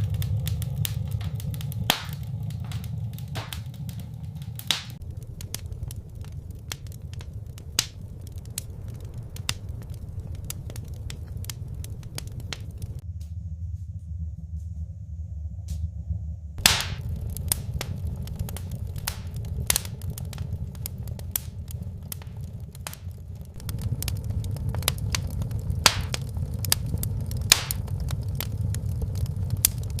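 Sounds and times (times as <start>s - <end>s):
firewood crackling and popping: 0.0s - 13.0s, 16.6s - 30.0s
low rumble of fire: 0.0s - 30.0s.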